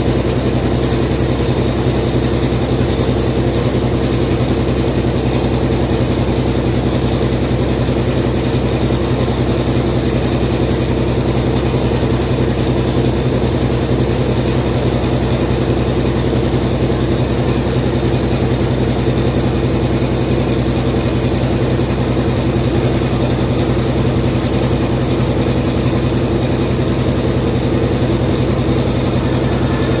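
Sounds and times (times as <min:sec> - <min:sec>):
washing machine spin cycle hum: 0:00.0 - 0:30.0.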